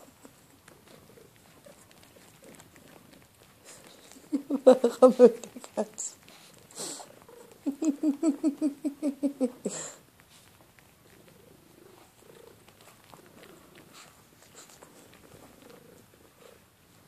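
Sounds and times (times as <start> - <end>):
pet purr-like pulses: 0.0 - 17.0
small rustles: 0.0 - 17.0.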